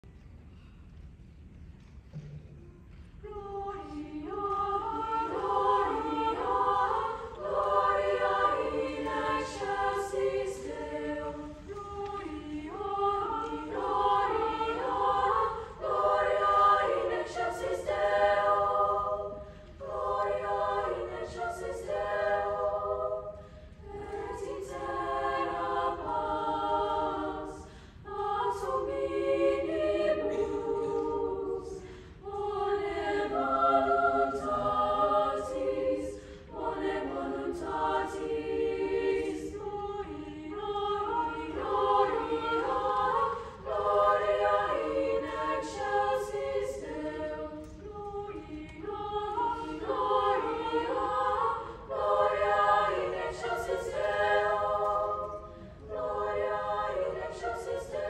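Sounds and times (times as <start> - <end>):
choir singing in parts: 3.2 - 58.0.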